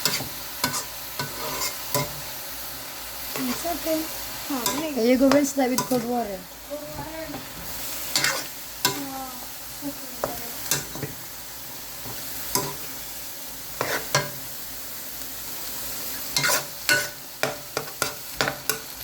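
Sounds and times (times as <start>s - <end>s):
utensil scraping a wok: 0.0s - 2.4s, 3.2s - 6.3s, 7.0s - 14.7s, 15.8s - 19.0s
food sizzling in a wok: 0.0s - 19.0s.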